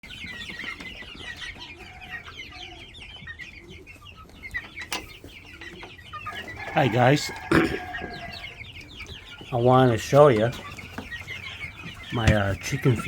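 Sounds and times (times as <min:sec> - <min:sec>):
chickens clucking and cheeping: 0:00.0 - 0:13.0.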